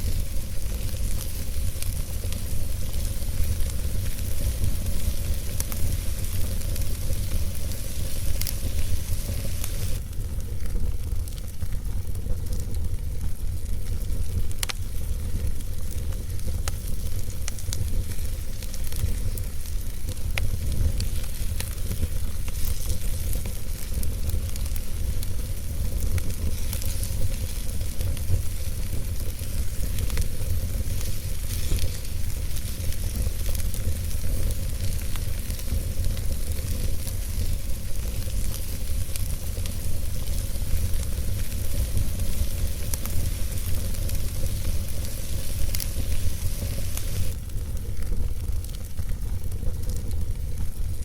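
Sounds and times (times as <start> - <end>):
steady hiss: 0.0 - 10.9, 14.2 - 48.0
campfire crackles and pops: 0.0 - 51.0.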